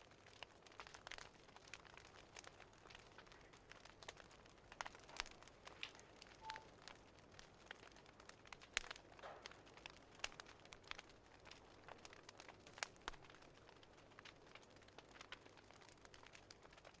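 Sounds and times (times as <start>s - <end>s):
faint wood fire crackling: 0.0s - 17.0s.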